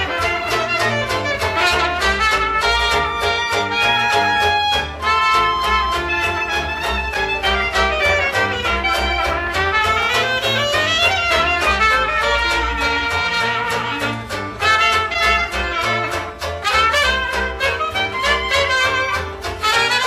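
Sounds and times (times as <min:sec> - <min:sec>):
clarinet melody: 0:00.0 - 0:20.0
plucked double bass: 0:00.0 - 0:20.0
strummed banjo chords: 0:00.0 - 0:20.0
trumpet melody: 0:00.0 - 0:20.0.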